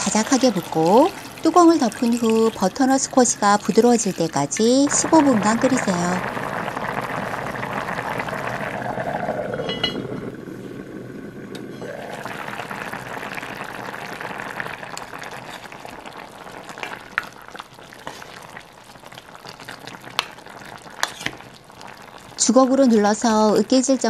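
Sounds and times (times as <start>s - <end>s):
soup bubbling in a pot: 0.0s - 24.0s.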